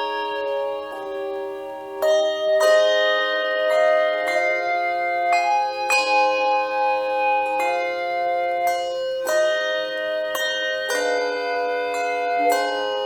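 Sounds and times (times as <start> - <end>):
bells playing slow melody: 0.0 - 13.0.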